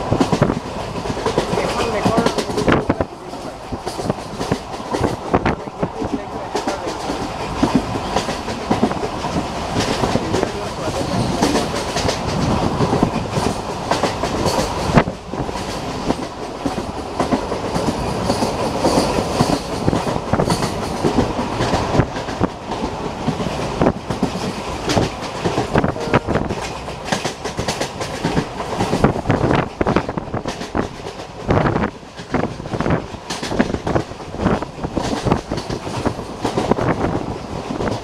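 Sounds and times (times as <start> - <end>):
train rushing noise: 0.0 - 38.0
wheels clattering over rails: 0.0 - 38.0.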